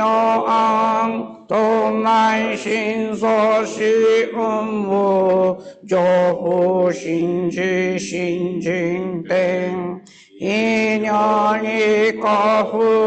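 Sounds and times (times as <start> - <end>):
person chanting on held notes: 0.0 - 13.0.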